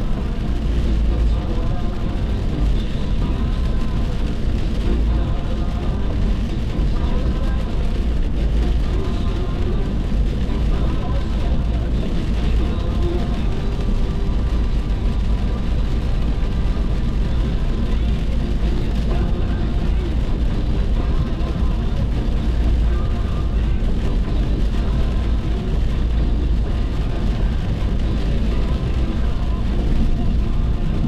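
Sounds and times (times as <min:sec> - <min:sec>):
car driving rumble from inside: 0:00.0 - 0:31.0
faint indistinct voice: 0:00.0 - 0:31.0.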